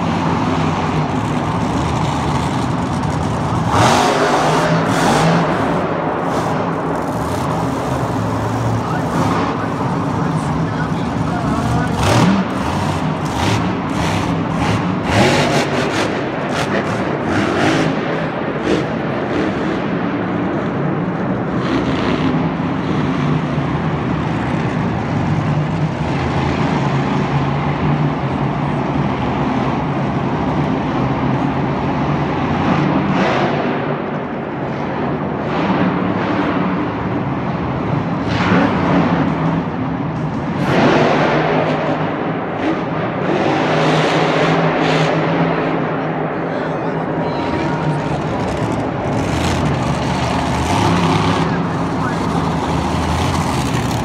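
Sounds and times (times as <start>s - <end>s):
monster truck engine running: 0.0s - 46.3s, 46.9s - 54.0s.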